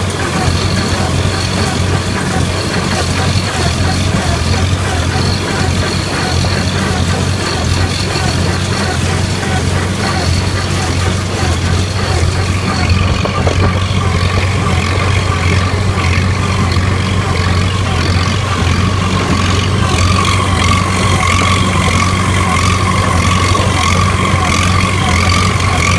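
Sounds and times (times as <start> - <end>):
steady whine: 0.0 - 25.9
tractor engine running under load: 0.0 - 25.9.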